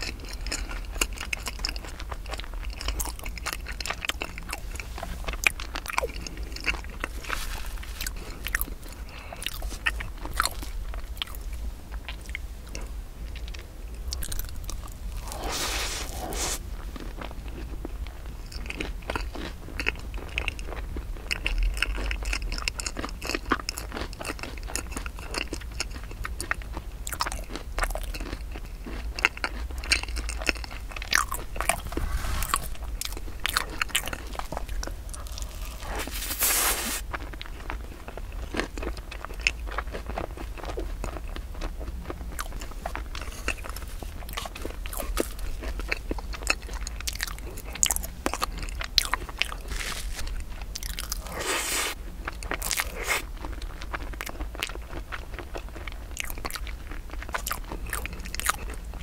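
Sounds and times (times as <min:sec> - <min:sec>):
wet chewing and mouth clicks: 0:00.0 - 0:59.0.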